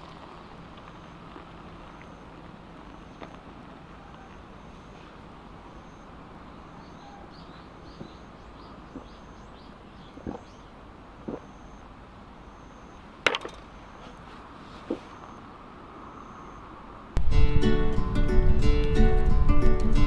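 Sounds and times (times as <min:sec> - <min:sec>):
small birds chirping: 0:00.0 - 0:16.8
steady background hiss: 0:00.0 - 0:20.0.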